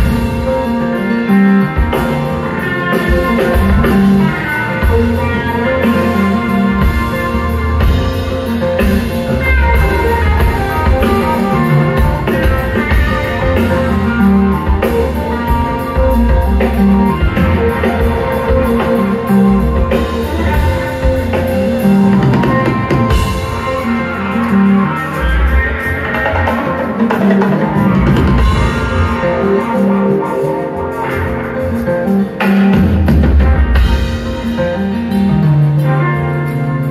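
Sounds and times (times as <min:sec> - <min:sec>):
bass guitar: 0:00.0 - 0:36.9
drum kit: 0:00.0 - 0:36.9
guitars: 0:00.0 - 0:36.9.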